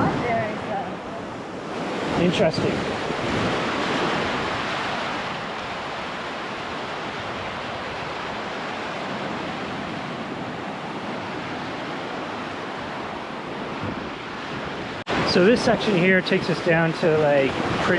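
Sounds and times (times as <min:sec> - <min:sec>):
surf hissing: 0:00.0 - 0:12.9, 0:15.1 - 0:17.9
wave washing up on beach: 0:00.0 - 0:17.9.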